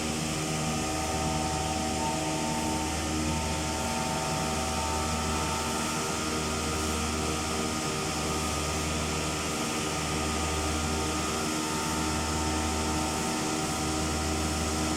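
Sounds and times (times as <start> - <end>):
low hum: 0.0 - 14.2
cnc router machine whining: 0.0 - 14.9.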